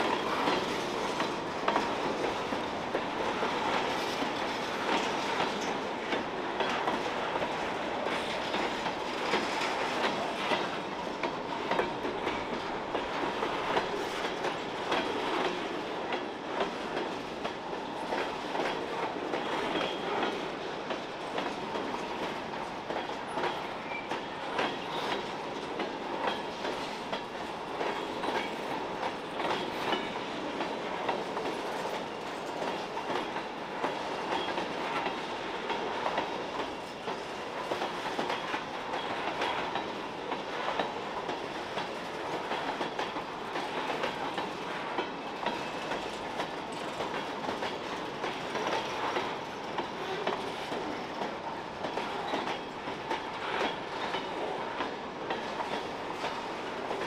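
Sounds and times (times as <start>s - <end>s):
track creaking: 0.0s - 57.0s
train wheels clicking over rail joints: 0.0s - 57.0s.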